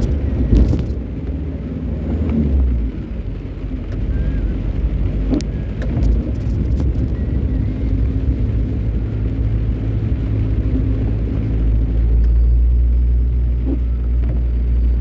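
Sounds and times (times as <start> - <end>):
road noise: 0.0 - 15.0
vehicle engine running: 0.0 - 15.0.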